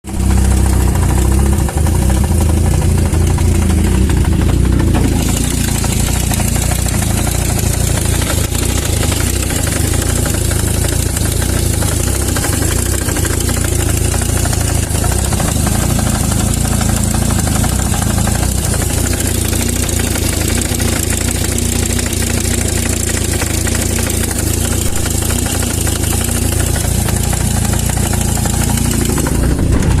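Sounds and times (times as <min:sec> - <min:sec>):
engine idling with a knock: 0:00.1 - 0:30.0.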